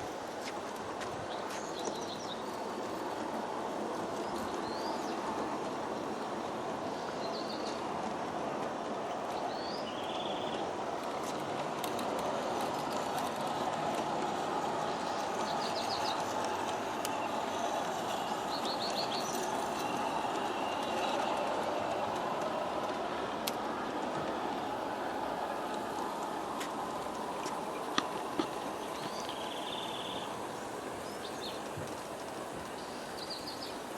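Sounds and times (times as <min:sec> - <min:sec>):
model train wheels and motors: 0:00.0 - 0:33.9.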